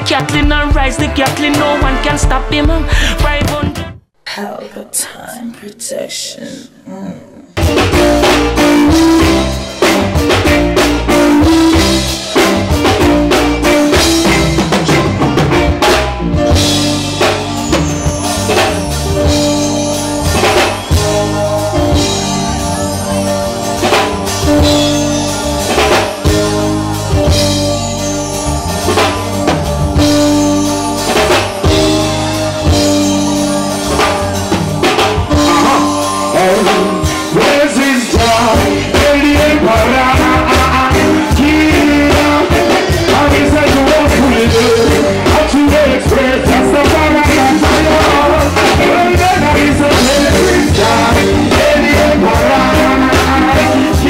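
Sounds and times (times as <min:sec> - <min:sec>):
drum kit beat: 0:00.0 - 0:04.1, 0:07.6 - 0:54.0
reggae band playing: 0:00.0 - 0:04.1, 0:07.6 - 0:54.0.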